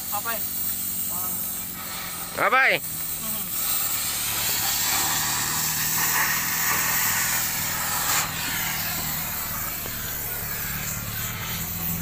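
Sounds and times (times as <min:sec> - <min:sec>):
cutting torch hissing: 0:00.0 - 0:12.0
low engine hum: 0:00.4 - 0:12.0.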